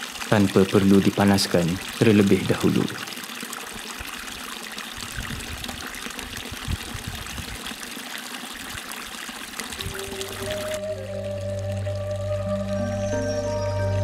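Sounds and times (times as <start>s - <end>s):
stream water trickling: 0.0s - 14.0s.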